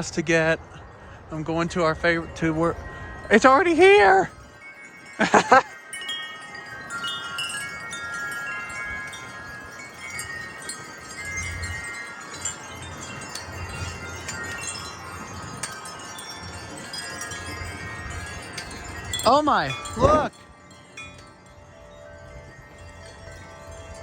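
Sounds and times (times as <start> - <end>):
low wind rumble: 0.0 - 24.0
wind chimes ringing: 0.0 - 24.0.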